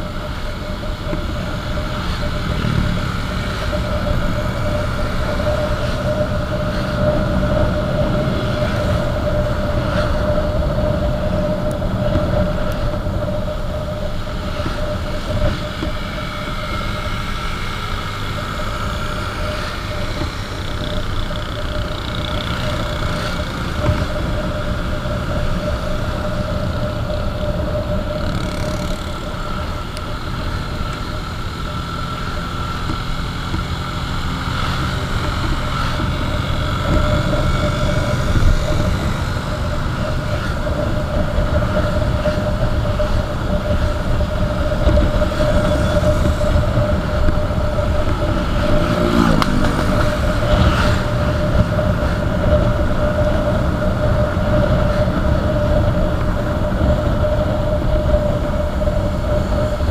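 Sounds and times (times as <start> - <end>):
motorcycle engine droning: 0.0 - 59.9
wind rushing over microphone: 0.0 - 59.9.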